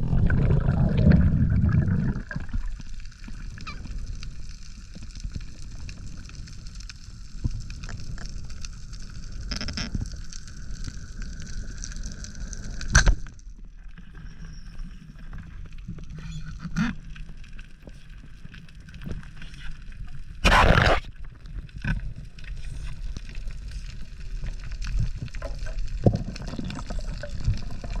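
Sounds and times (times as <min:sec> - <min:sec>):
underwater rumble: 0:00.0 - 0:28.0.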